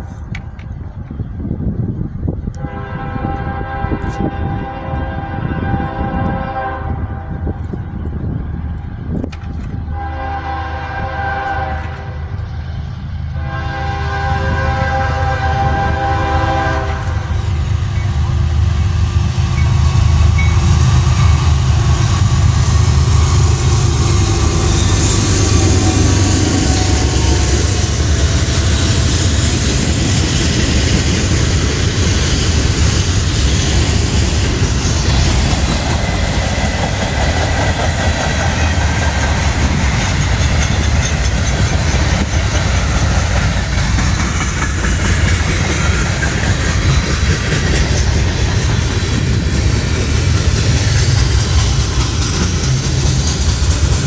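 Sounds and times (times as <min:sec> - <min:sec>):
diesel locomotive engines: 0:00.0 - 0:54.0
freight cars rolling on rails: 0:00.0 - 0:54.0.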